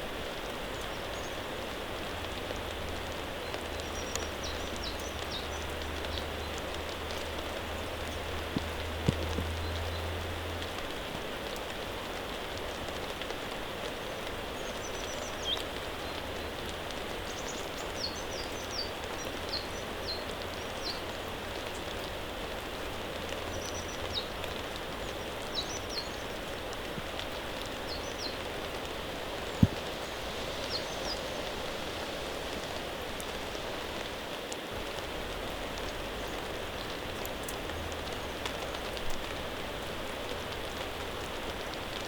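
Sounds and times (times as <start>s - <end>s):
rain falling in forest: 0.0s - 42.0s.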